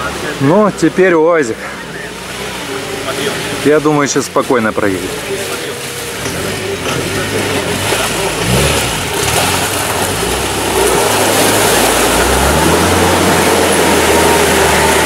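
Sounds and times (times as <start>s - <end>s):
car engine revving under load: 1.5s - 15.0s.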